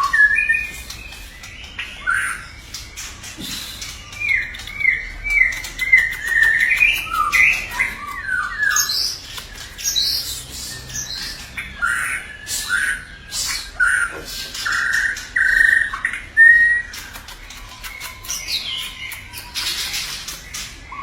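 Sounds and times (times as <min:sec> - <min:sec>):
songbird whistling and chattering: 0:00.0 - 0:21.0.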